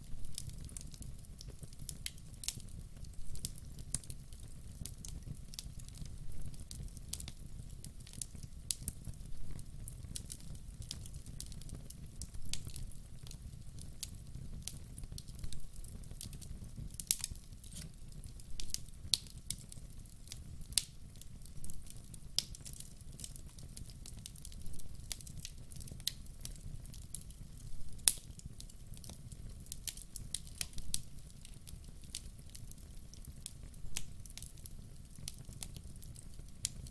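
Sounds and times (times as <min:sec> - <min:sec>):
logs crackling and popping: 0:00.0 - 0:36.9
low rumble of flames: 0:00.0 - 0:36.9.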